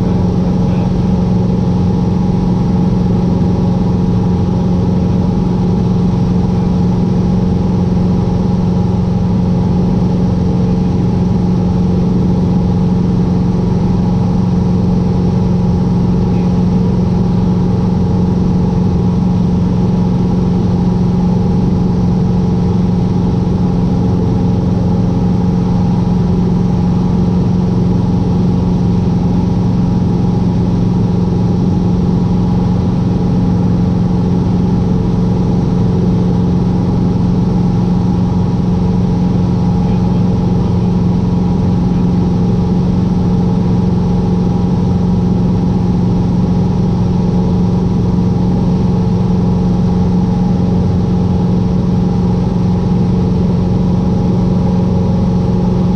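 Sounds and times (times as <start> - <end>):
airplane engine and propeller droning: 0.0 - 55.9.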